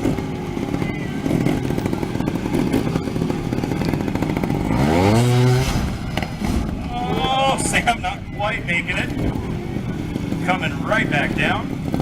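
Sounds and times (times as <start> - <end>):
two-stroke motorcycle engine revving: 0.0 - 6.9, 7.5 - 12.0.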